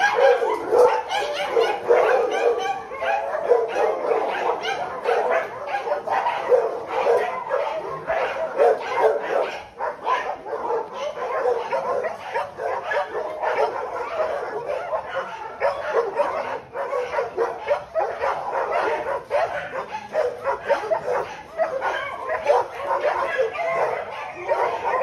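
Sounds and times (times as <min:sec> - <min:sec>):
dogs barking: 0:00.0 - 0:25.0.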